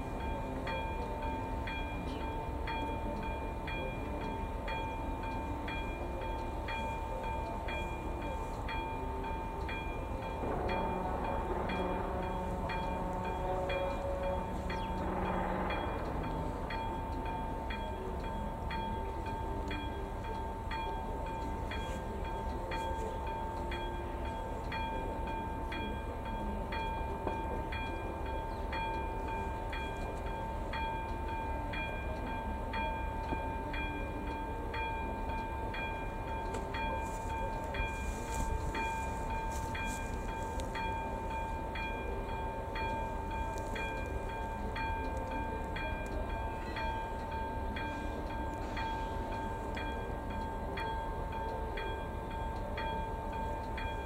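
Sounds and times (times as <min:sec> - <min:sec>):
level crossing warning bell: 0:00.0 - 0:54.0.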